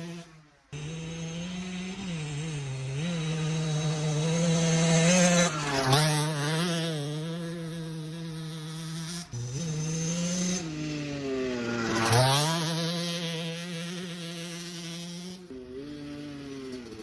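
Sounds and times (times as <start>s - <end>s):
two-stroke engine revving high: 0.0s - 17.0s.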